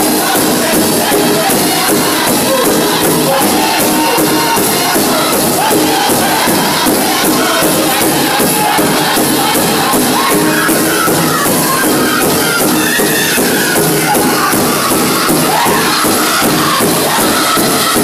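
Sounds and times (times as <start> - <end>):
group singing in unison: 0.0 - 18.0
large hand drum beat: 0.0 - 18.0.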